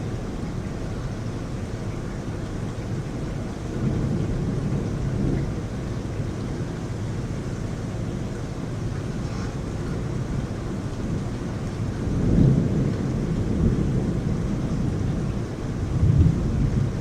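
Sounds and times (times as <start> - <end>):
heavy rain falling: 0.0 - 17.0
low rumble of thunder: 0.0 - 17.0.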